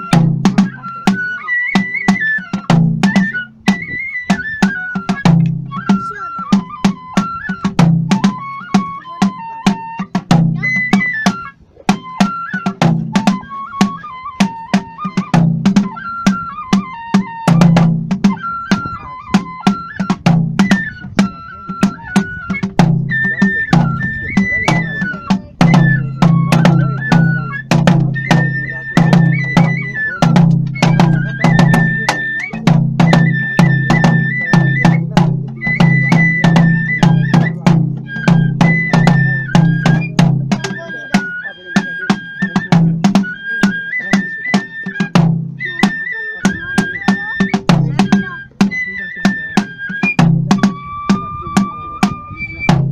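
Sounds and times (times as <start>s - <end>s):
bamboo flute melody: 0.0s - 52.9s
drum beating steady rhythm: 0.0s - 52.9s.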